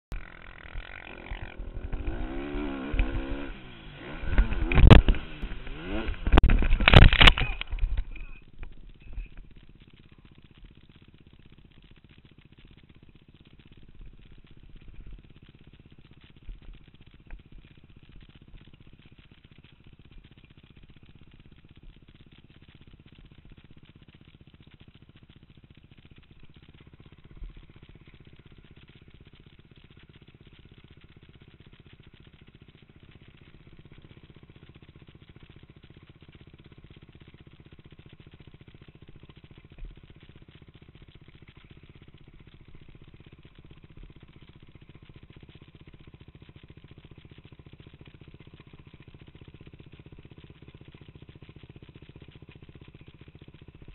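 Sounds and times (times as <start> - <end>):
dirt bike engine idling: 0.1 - 53.9.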